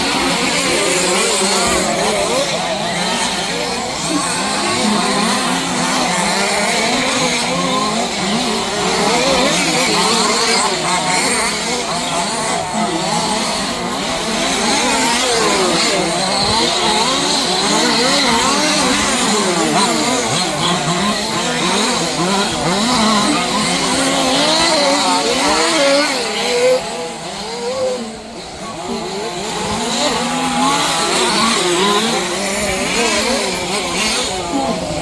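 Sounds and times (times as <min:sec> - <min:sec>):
small two-stroke engines revving: 0:00.0 - 0:35.0.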